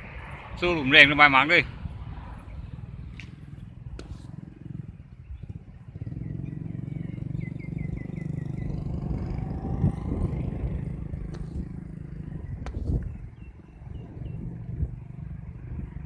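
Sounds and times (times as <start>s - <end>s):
wind buffeting microphone: 0.0s - 16.0s
bird chirping: 2.4s - 15.6s.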